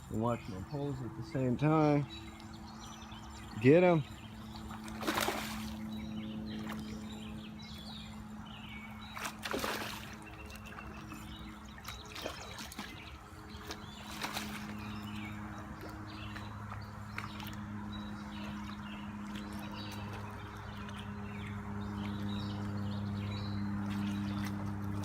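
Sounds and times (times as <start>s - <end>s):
river water trickling: 0.0s - 25.0s
water splashes: 3.4s - 25.0s.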